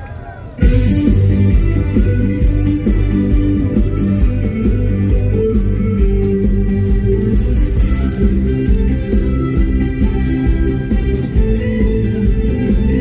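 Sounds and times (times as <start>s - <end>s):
electric guitar: 0.0s - 13.0s
bass and drum beat: 0.6s - 13.0s.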